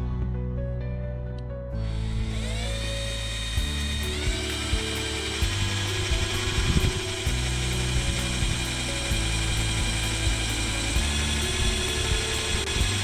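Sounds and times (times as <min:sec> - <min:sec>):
background music: 0:00.0 - 0:13.0
power drill whining through metal: 0:01.8 - 0:13.0.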